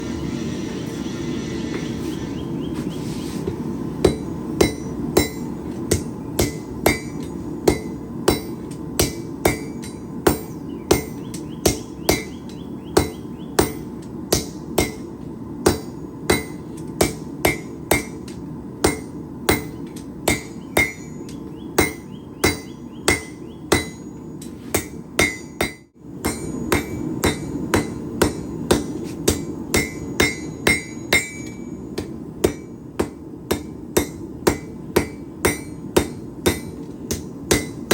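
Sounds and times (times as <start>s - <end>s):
steady background noise: 0.0s - 37.9s
hammer ringing on anvil: 4.0s - 37.9s.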